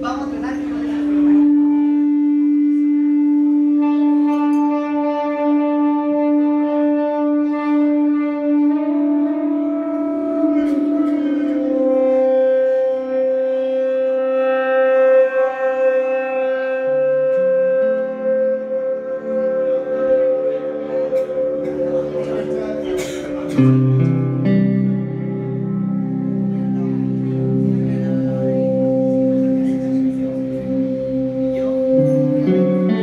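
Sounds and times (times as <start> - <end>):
band playing sustained drone: 0.0 - 33.0.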